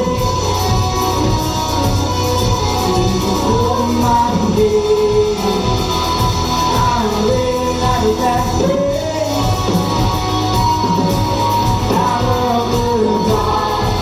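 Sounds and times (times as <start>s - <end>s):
drums: 0.0s - 14.0s
live band playing: 0.0s - 14.0s
person singing: 0.0s - 14.0s.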